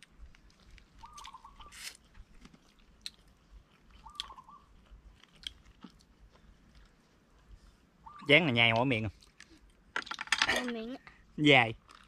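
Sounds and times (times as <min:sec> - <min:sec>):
people chewing food: 0:00.0 - 0:10.2, 0:11.0 - 0:12.0.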